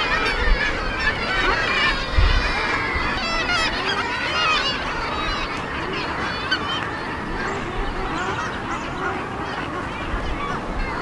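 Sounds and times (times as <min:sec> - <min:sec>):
seabirds calling: 0:00.0 - 0:11.0.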